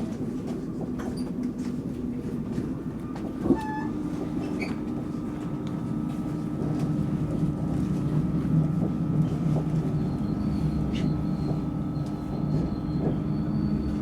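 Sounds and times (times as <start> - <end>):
metro train rumble and hum: 0.0 - 14.0.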